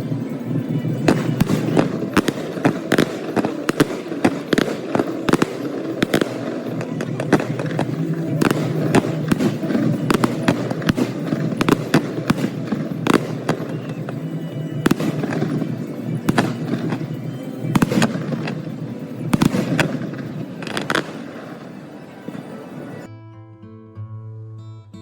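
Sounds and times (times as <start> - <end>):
fireworks bangs: 0.0 - 23.1
music: 0.0 - 25.0.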